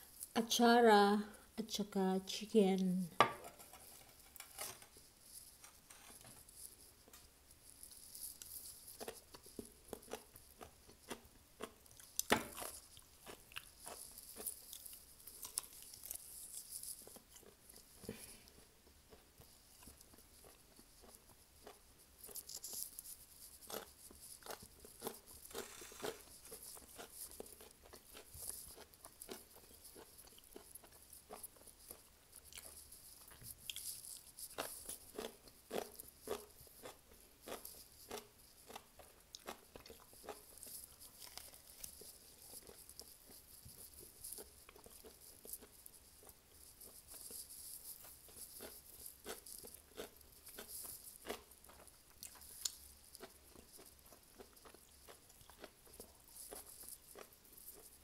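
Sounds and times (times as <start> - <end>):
crunchy food chewing: 3.3 - 58.0.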